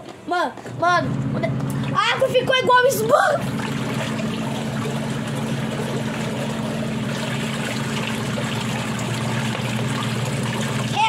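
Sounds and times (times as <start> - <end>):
washing machine motor hum: 0.0 - 11.0
water sloshing: 1.8 - 11.0.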